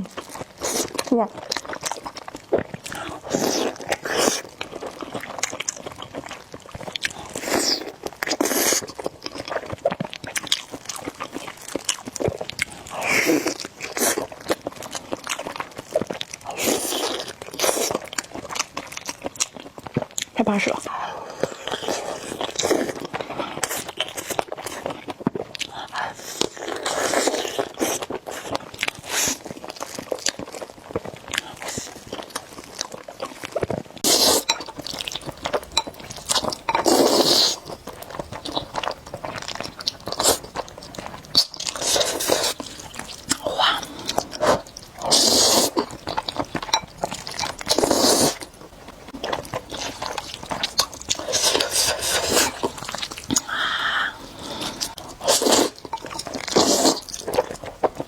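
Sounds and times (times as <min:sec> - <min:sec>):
chewing and biting mouth sounds: 0:00.0 - 0:58.0.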